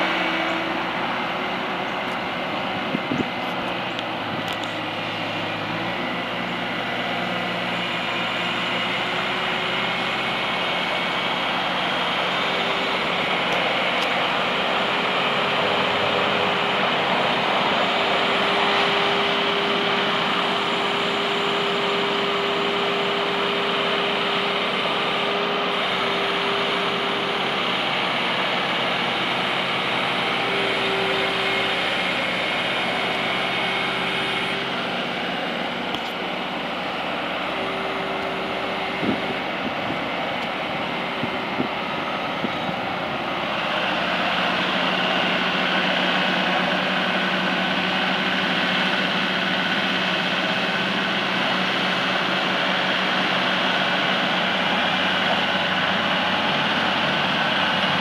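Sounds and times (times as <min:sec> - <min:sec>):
diesel loader engine running: 0:00.0 - 0:58.0
hydraulic whine: 0:00.0 - 0:58.0.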